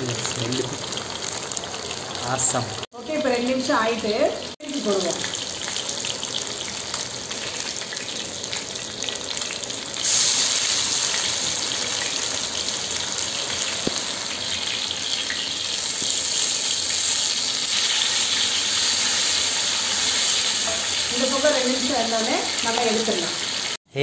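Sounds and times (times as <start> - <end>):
fish sizzling in oil: 0.0 - 23.8.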